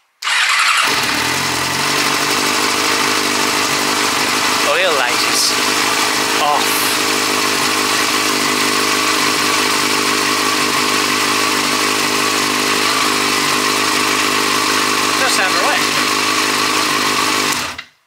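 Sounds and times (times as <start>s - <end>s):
motorcycle engine idling: 0.2s - 17.5s.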